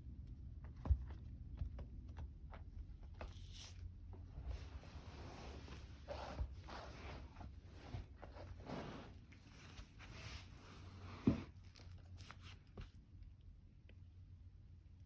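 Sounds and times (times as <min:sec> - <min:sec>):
kitten rustling and scuffling: 0:00.2 - 0:13.4.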